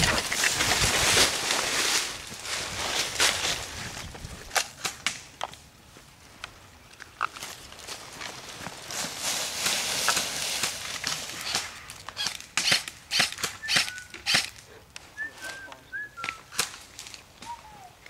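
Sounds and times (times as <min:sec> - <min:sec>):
rustling through dry brush: 0:00.0 - 0:18.0.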